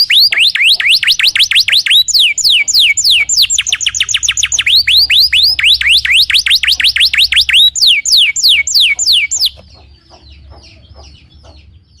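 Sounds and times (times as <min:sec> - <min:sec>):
canary singing whistled notes: 0:00.0 - 0:12.0
soft bird chirps: 0:00.0 - 0:12.0.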